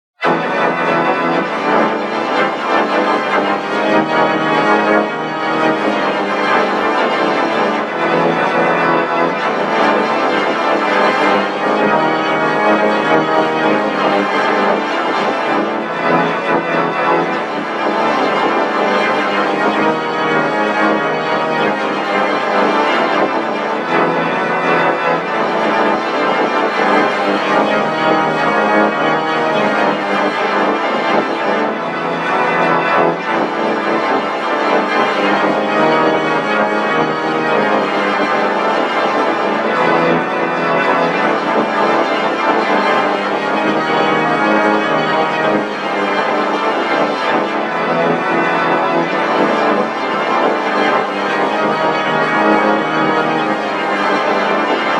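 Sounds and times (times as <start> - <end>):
organ-like electronic tone: 0.2 - 53.7.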